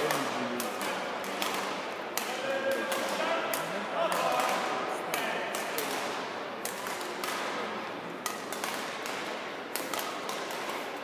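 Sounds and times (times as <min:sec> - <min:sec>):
rackets hitting shuttlecock: 0:00.0 - 0:11.0
steady background hum: 0:00.0 - 0:11.0.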